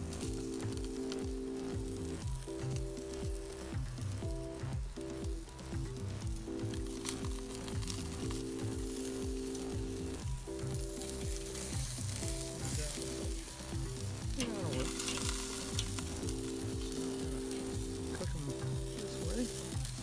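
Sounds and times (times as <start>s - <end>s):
background music with a beat: 0.0s - 20.0s
meat sizzling on a grill: 0.0s - 20.0s.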